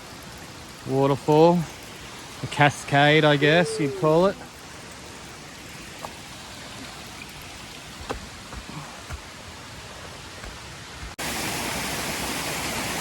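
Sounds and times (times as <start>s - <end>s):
creek cascade running: 0.0s - 13.0s
waterfall rushing: 0.0s - 13.0s.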